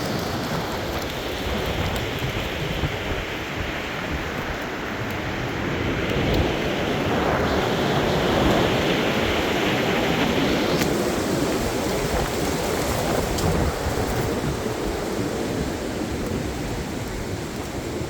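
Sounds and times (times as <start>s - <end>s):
storm wind blowing in gusts: 0.0s - 18.0s
wind buffeting microphone: 0.0s - 18.0s.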